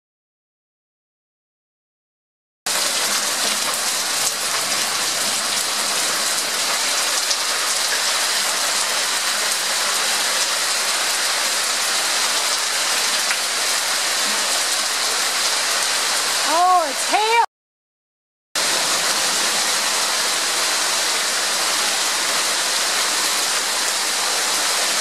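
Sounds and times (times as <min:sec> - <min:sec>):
hail and rain on concrete: 0:02.7 - 0:17.4, 0:18.6 - 0:25.0.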